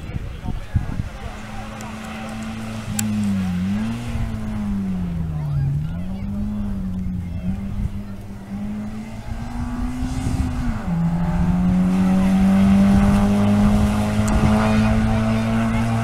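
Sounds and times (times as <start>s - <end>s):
rally car engine at high revs: 0.0s - 16.0s.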